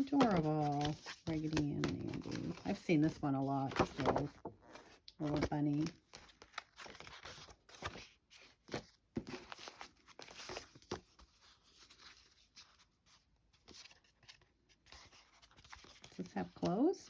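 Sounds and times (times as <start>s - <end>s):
paper cards rustling and crinkling: 0.0s - 17.0s.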